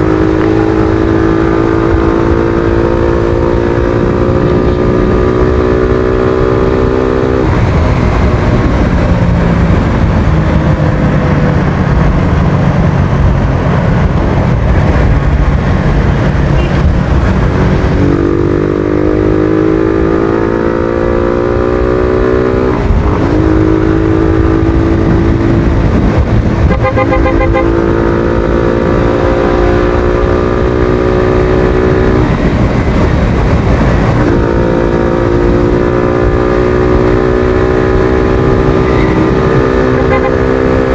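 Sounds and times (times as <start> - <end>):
motorcycle engine accelerating: 0.0 - 40.9
wind rumble on microphone: 0.0 - 40.9.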